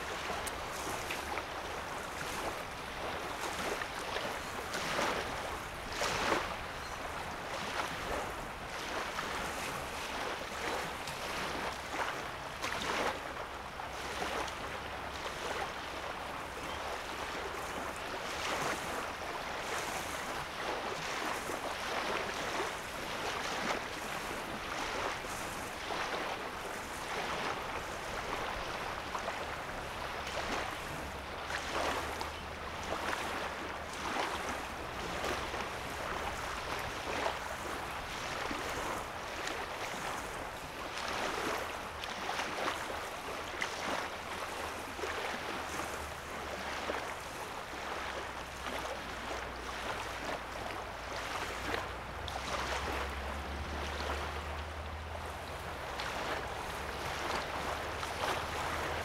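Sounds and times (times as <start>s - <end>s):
lake waves lapping on sand: 0.0s - 59.0s.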